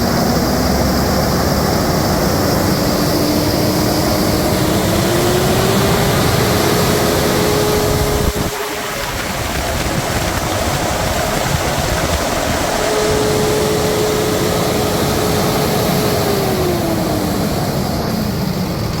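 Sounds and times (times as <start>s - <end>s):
diesel engine running: 0.0s - 19.0s
turbo whine: 0.0s - 19.0s.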